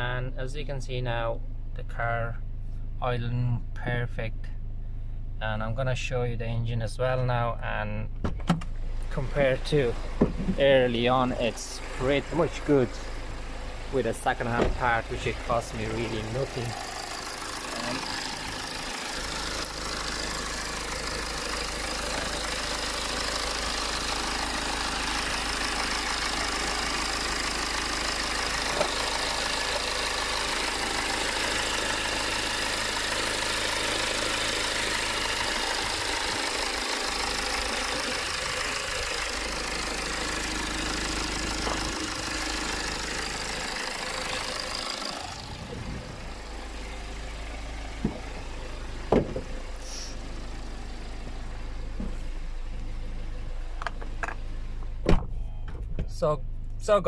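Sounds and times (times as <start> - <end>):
diesel engine idling: 8.7 - 57.0.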